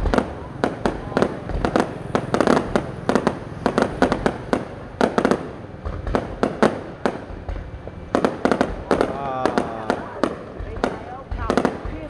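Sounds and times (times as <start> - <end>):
fireworks bangs with echo: 0.0 - 12.0.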